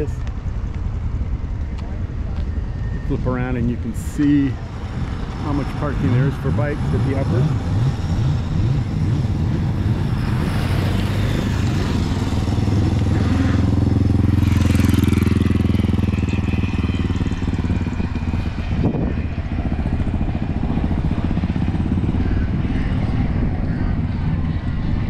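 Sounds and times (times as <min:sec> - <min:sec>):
motorcycle engine at low revs: 0:03.8 - 0:25.0.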